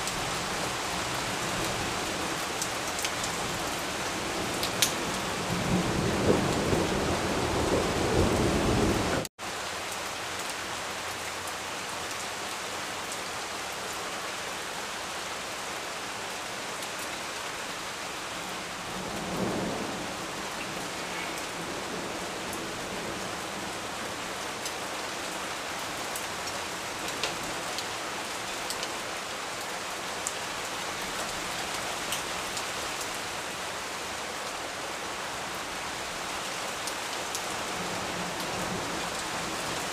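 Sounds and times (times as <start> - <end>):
steady rain on leaves: 0.0 - 39.9.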